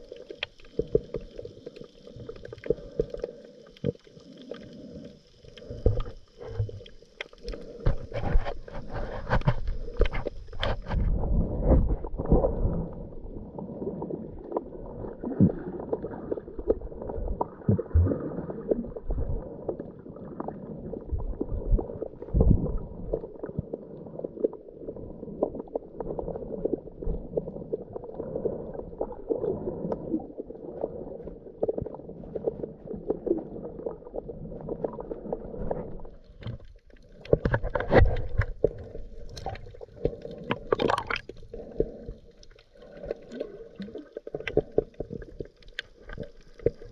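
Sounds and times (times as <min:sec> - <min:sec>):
underwater bubbling and gurgling: 0:00.0 - 0:46.9.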